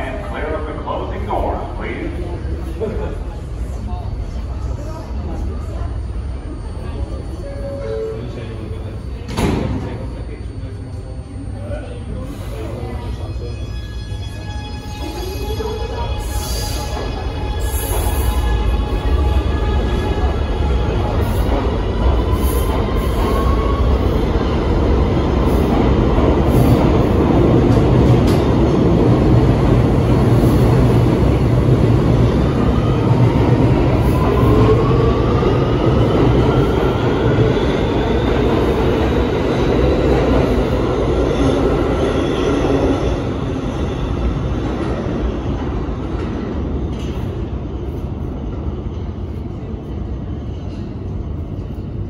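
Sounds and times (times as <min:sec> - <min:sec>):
subway train electric whine: 0:00.0 - 0:52.0
subway train rumble: 0:00.0 - 0:52.0.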